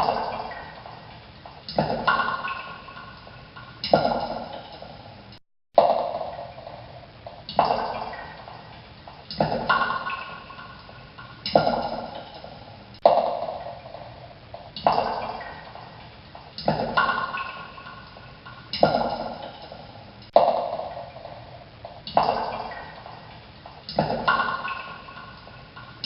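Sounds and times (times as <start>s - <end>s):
water drops dripping: 0.0s - 26.0s.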